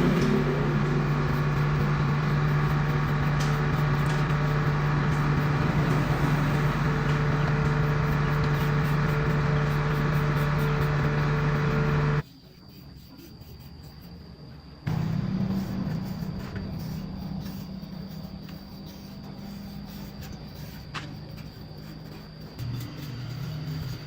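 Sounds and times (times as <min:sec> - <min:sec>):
machine motor humming: 0:00.0 - 0:12.2, 0:14.9 - 0:24.0.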